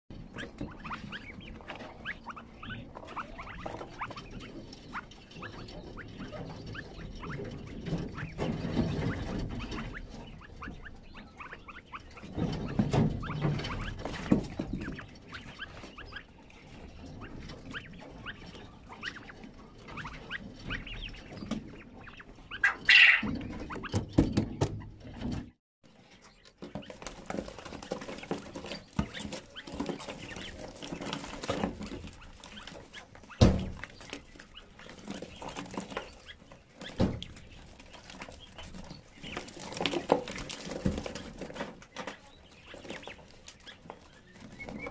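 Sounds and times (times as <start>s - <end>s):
chicks scratching and pecking: 0.1s - 44.9s.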